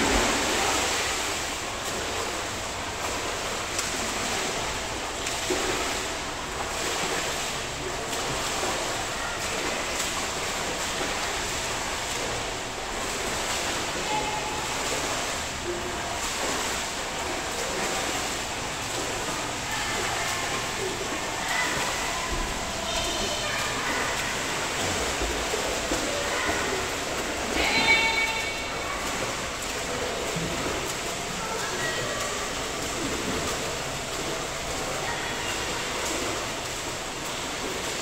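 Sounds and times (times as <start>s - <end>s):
swimmers splashing in water: 0.0s - 38.0s.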